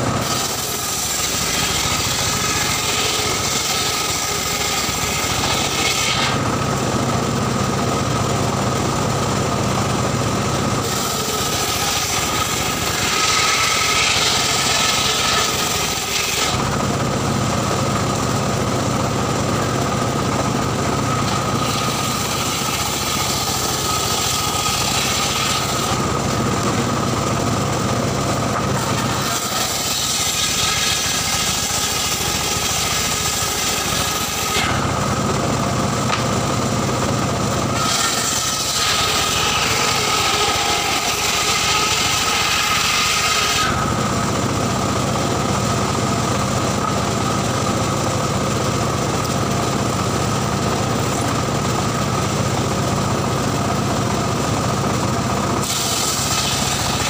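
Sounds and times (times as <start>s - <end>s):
circular saw whining: 0.0s - 57.0s
saw blade rasping through wood: 0.0s - 57.0s.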